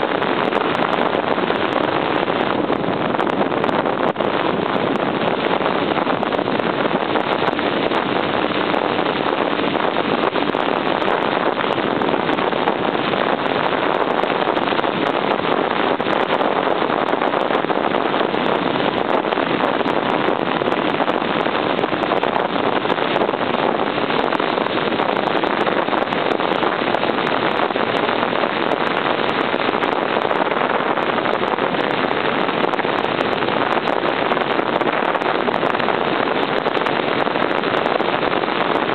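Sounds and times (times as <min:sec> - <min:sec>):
wind rush over microphone: 0:00.0 - 0:38.9.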